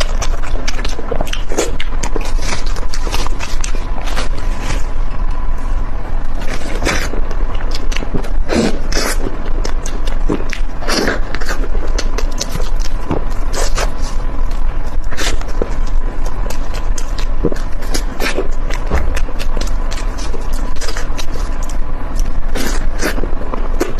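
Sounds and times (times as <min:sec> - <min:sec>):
wet chewing clicks: 0:00.0 - 0:05.3, 0:06.3 - 0:23.9.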